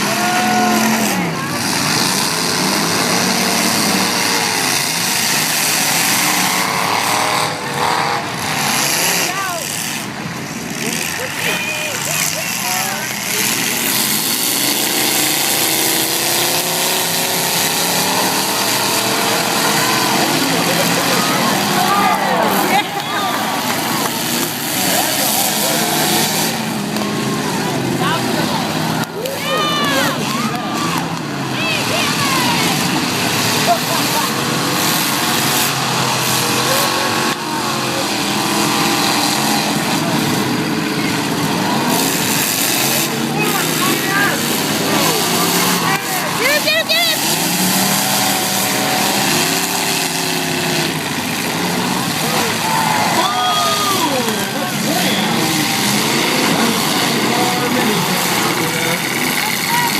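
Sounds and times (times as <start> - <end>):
car engine revving: 0.0 - 59.9
engine and exhaust noise: 0.0 - 59.9.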